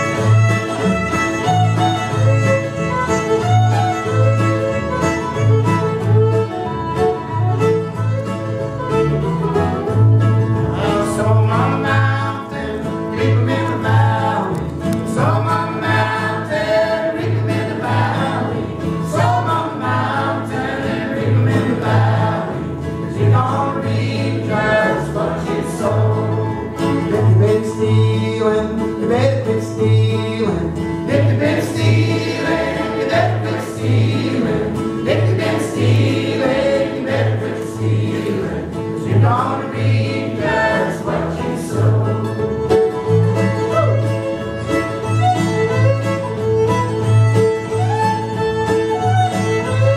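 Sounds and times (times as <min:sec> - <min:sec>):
fiddle: 0:00.0 - 0:49.9
guitar: 0:00.0 - 0:49.9
mandolin: 0:00.0 - 0:49.9.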